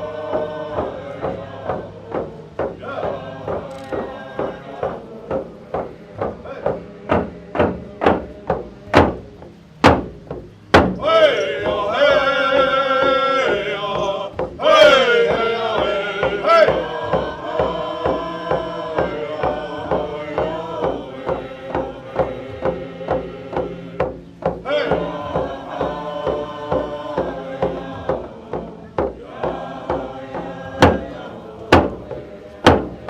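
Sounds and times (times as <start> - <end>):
chant-like singing: 0.0 - 33.0
steady drumbeat: 0.0 - 33.0.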